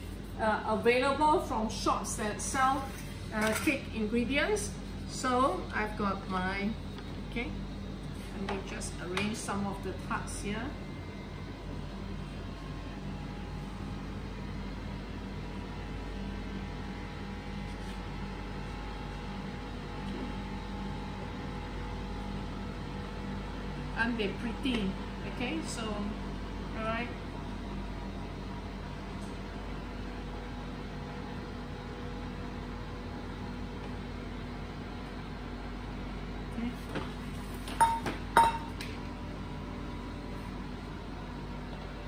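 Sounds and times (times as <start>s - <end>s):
machine hum with hiss: 0.0s - 42.0s.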